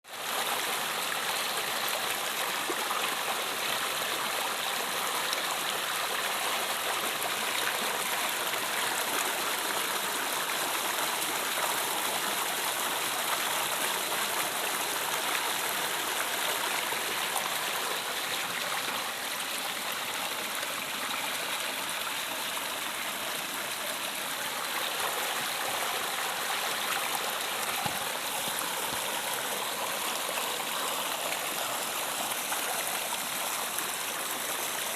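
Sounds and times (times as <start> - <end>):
river water flowing over rocks: 0.1 - 34.9.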